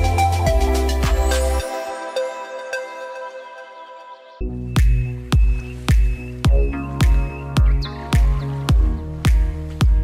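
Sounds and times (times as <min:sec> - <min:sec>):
background music with deep bass and beat: 0:00.0 - 0:10.0.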